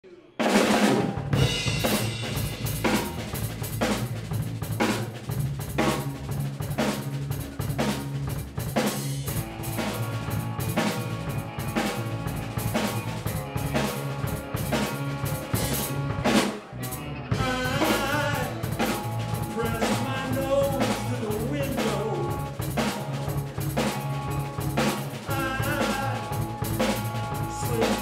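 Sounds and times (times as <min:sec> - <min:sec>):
drum kit beat: 0:00.4 - 0:28.0
electric guitar: 0:00.7 - 0:28.0
electric bass: 0:00.9 - 0:28.0.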